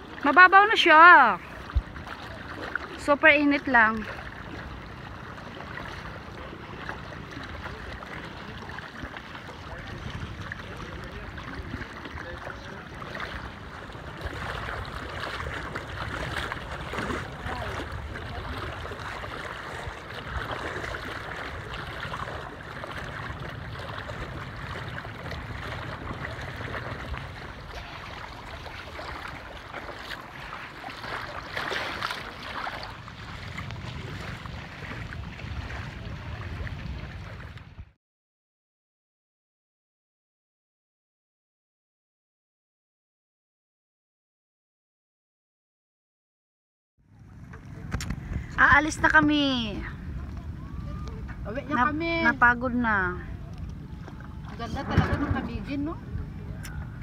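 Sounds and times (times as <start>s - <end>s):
sea water: 0.0s - 38.0s, 47.0s - 57.0s
wind rumble on microphone: 0.0s - 38.0s, 47.1s - 57.0s.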